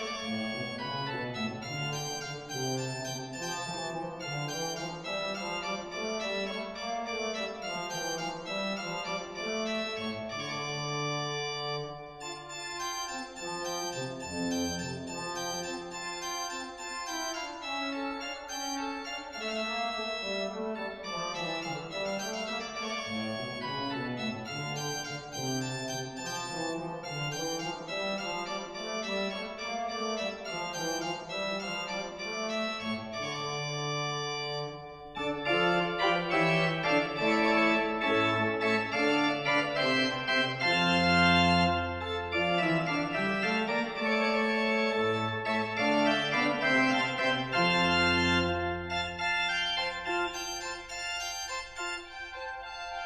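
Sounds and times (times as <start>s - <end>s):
pipe organ playing: 0.0s - 53.0s.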